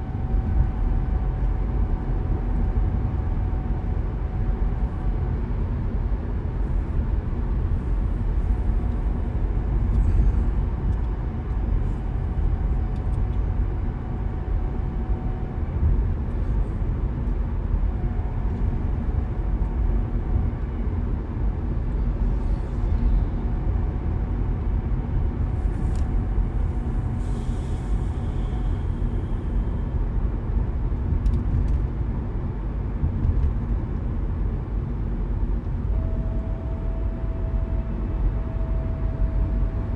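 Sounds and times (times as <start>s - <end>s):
car engine and tyre rumble: 0.0s - 39.9s
faint steady whine: 0.0s - 39.9s.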